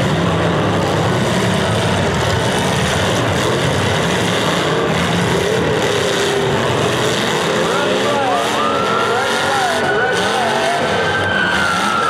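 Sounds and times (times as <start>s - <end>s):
car engines running hard: 0.0s - 12.0s
engine revving: 0.0s - 12.0s.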